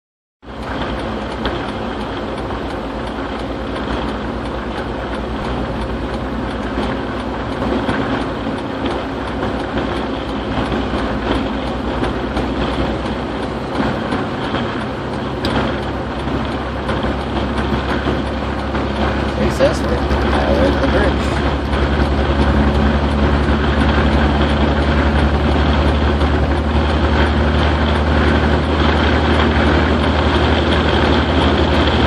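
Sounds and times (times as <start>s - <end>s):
road noise inside vehicle: 0.4s - 32.0s.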